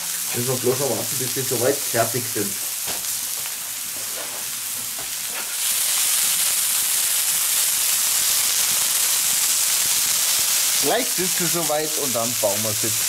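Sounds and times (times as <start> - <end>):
meat patties sizzling on griddle: 0.0 - 13.0.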